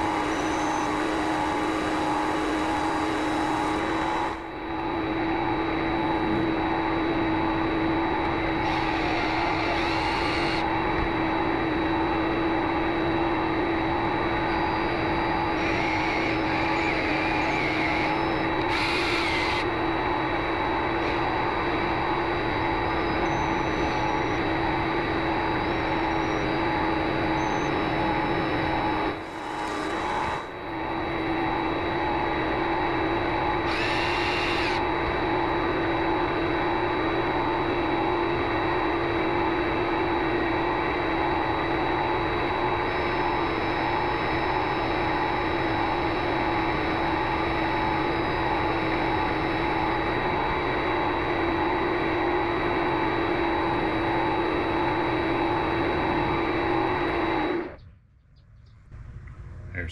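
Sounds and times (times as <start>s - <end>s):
lathe motor whining: 0.0s - 57.8s.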